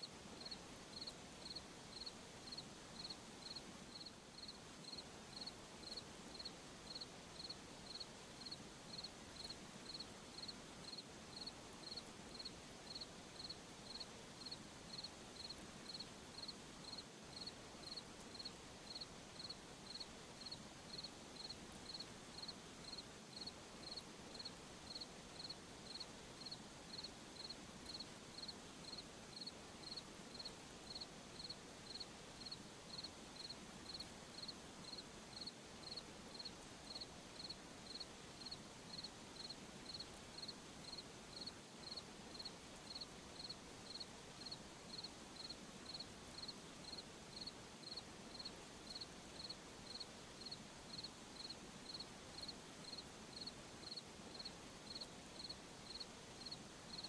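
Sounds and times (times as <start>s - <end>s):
hiss of night insects: 0.0s - 57.0s
cricket chirping: 0.4s - 57.0s.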